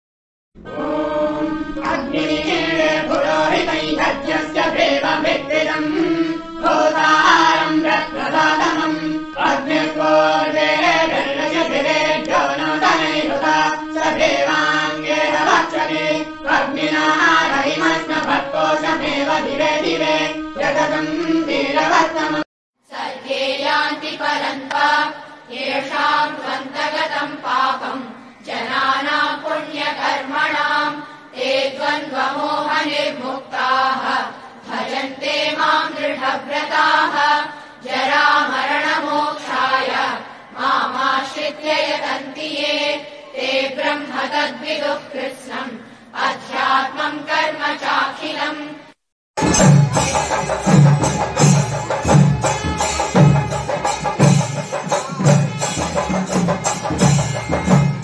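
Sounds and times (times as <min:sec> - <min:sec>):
devotional chanting: 0:00.6 - 0:58.0.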